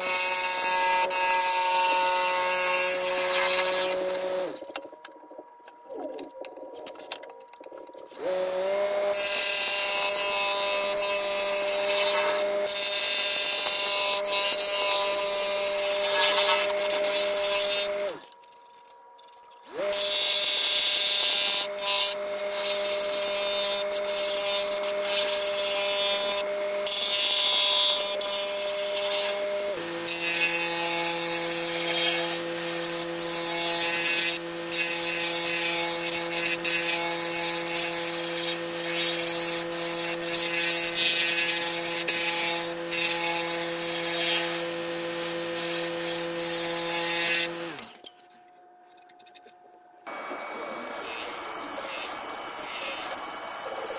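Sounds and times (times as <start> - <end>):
wood lathe motor whine: 0.0 - 7.0, 7.7 - 48.0, 50.1 - 53.9.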